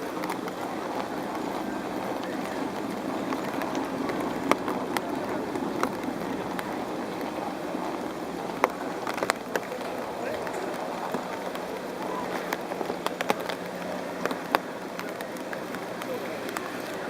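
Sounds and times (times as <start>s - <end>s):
outdoor ambient noise: 0.0s - 17.0s.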